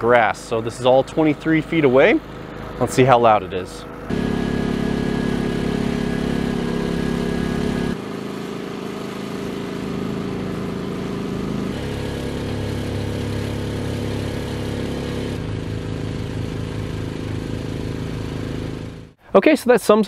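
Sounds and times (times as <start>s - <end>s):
generator engine running: 0.0s - 19.2s.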